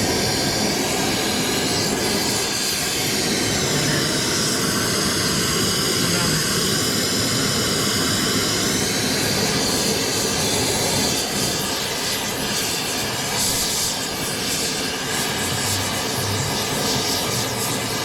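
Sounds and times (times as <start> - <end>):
loud rushing roar with whine: 0.0 - 18.0.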